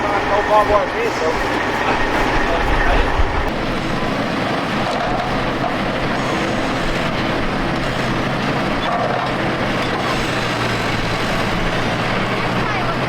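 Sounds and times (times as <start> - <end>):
tractor engine humming: 0.0 - 13.0.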